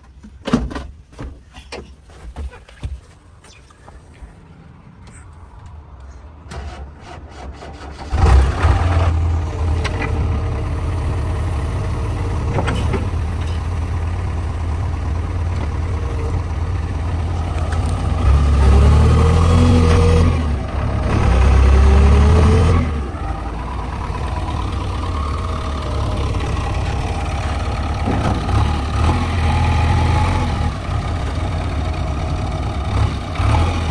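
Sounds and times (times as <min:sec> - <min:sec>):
diesel engine starting and running: 0:05.6 - 0:33.9.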